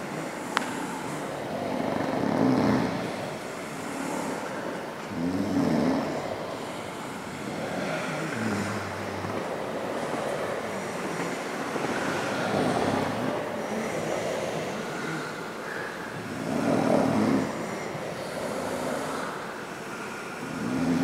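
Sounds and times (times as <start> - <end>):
men snoring: 0.0 - 21.0.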